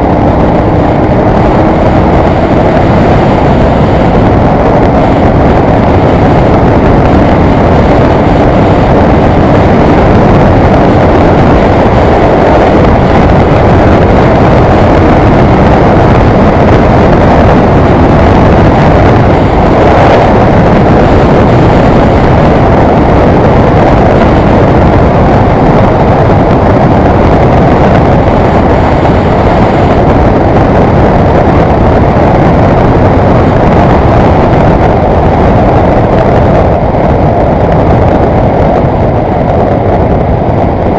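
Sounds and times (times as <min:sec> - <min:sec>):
wind rush: 0:00.0 - 0:40.9.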